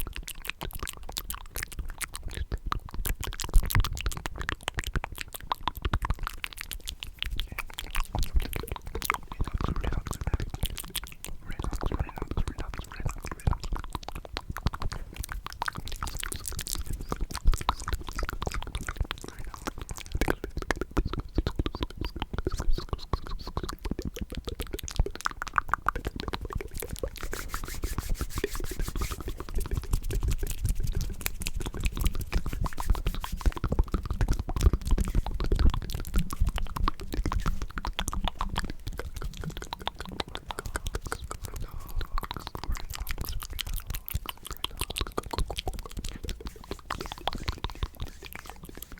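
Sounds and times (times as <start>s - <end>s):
wet mouth clicks and smacks: 0.0s - 48.9s.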